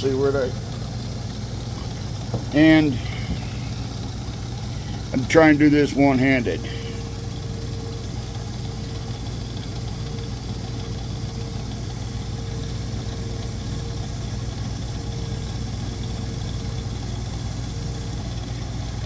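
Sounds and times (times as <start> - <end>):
electric motor humming: 0.0 - 19.0.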